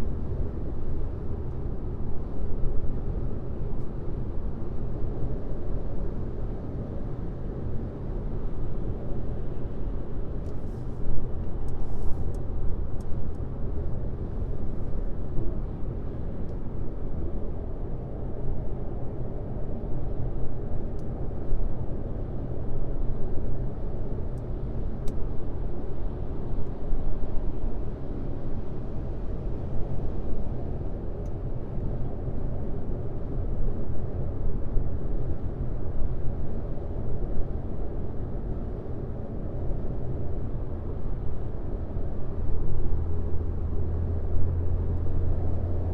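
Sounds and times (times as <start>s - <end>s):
road and tyre noise: 0.0s - 45.9s.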